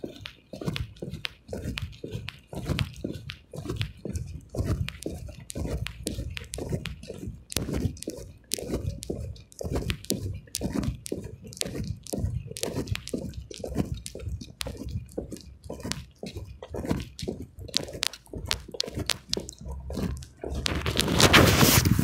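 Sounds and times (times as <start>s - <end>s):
fingers handling a phone: 0.2s - 22.0s.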